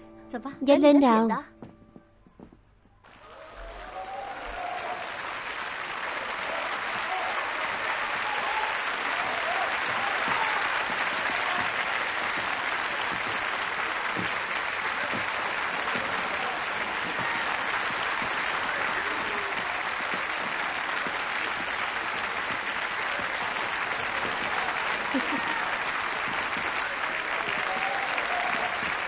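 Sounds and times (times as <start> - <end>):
crowd applauding: 3.0 - 29.0.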